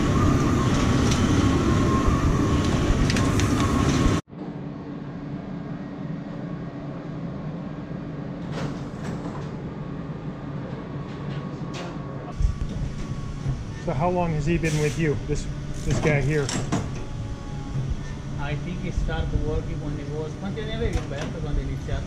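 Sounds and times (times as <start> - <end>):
factory machinery humming: 0.0 - 22.0.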